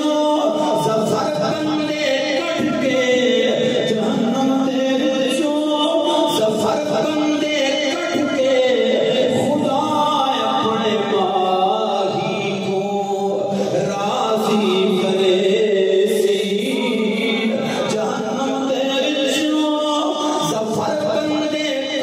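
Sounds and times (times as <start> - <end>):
man chanting through a microphone: 0.0 - 22.0.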